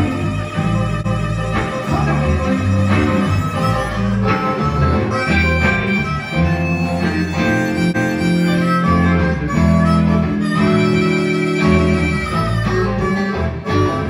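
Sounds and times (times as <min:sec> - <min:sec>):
amplified blues harmonica: 0:00.0 - 0:14.0
bass line: 0:00.0 - 0:14.0
guitar: 0:00.0 - 0:14.0.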